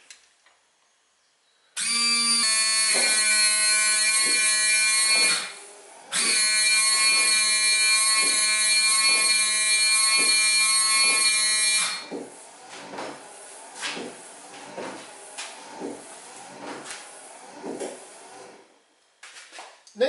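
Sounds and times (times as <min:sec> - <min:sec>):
washer pump and wiper motor buzzing: 0:01.8 - 0:18.7.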